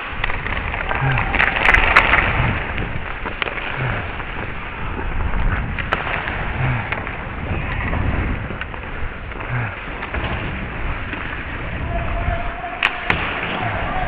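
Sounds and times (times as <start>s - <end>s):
skate blades scraping ice: 0.0s - 14.0s.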